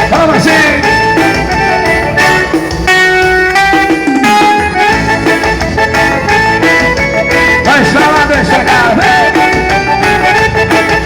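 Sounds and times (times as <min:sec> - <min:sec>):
dance band music with guitar: 0:00.0 - 0:11.0.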